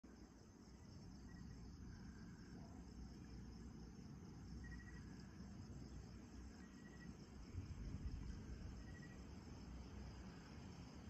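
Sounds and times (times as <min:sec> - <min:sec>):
crickets trilling: 0:00.1 - 0:11.0
low background rumble: 0:00.1 - 0:11.0.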